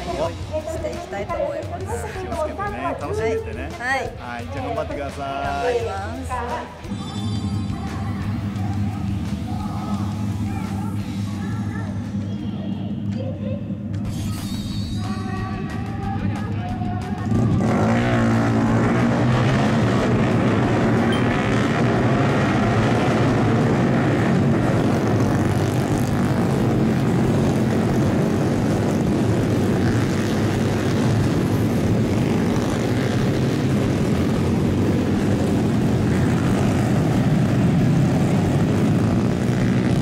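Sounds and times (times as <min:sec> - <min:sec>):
mini bike engines droning: 0:06.3 - 0:40.0.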